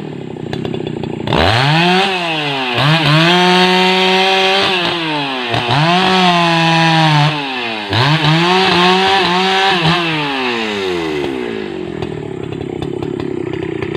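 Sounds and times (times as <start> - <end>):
chainsaw cutting logs: 0.0 - 13.9.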